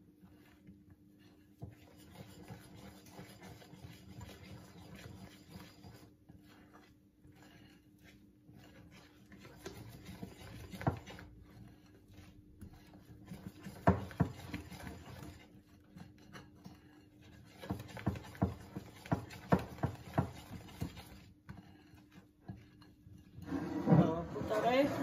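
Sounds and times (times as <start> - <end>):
whisk scraping batter: 0.0 - 25.0.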